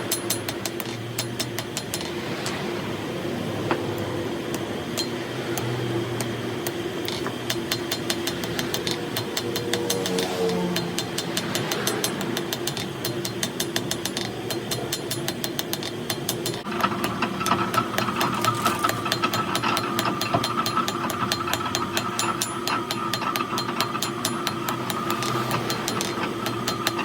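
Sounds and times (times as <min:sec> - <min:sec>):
rapid mechanical clicking: 0:00.0 - 0:03.0, 0:03.6 - 0:27.0
steady whine: 0:00.0 - 0:27.0.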